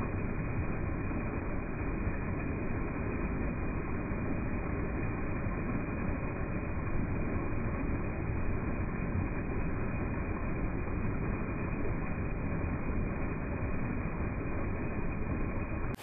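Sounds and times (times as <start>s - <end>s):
water rushing over a ledge: 0.0s - 16.0s.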